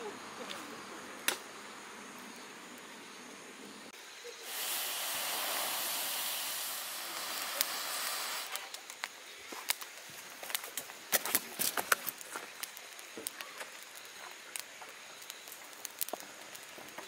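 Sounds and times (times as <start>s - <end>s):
fire crackling and popping: 0.4s - 3.0s, 3.9s - 17.0s
flames hissing: 0.6s - 17.0s.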